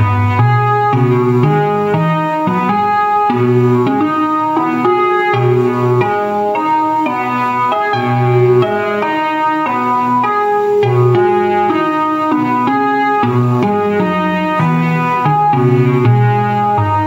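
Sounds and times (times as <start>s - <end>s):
keyboard chords: 0.0s - 17.0s.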